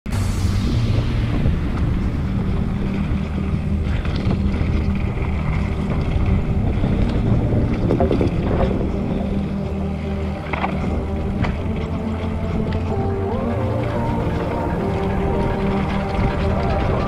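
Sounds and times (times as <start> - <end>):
deep electronic bass: 0.1 - 17.0
wind buffeting microphone: 0.1 - 17.0
mountain bike rattling on trail: 2.5 - 17.0.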